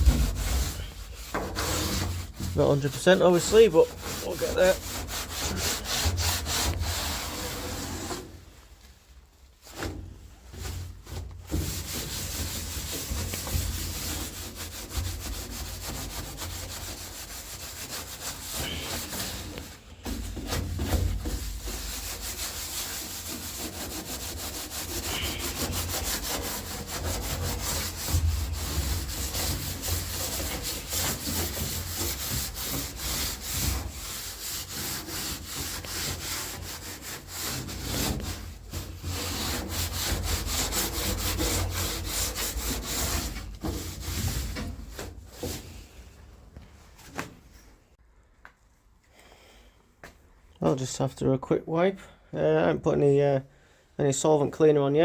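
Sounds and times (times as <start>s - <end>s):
hand scraping on steel floor: 0.0s - 8.9s, 9.6s - 46.2s.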